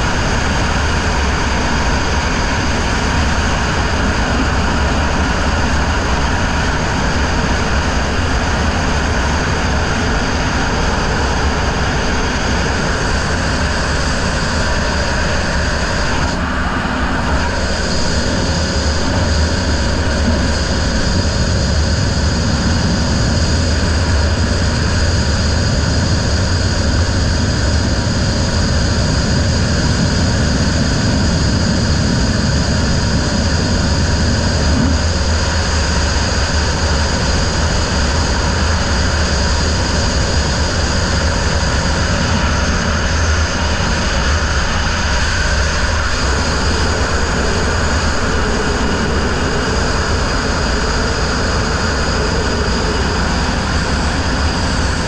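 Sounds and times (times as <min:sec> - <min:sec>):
outboard motor running: 0:00.0 - 0:55.0
rushing wind and water: 0:00.0 - 0:55.0.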